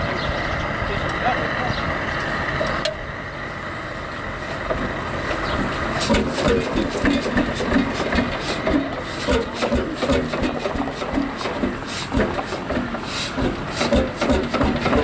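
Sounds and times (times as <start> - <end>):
tractor engine knocking: 0.0 - 15.0.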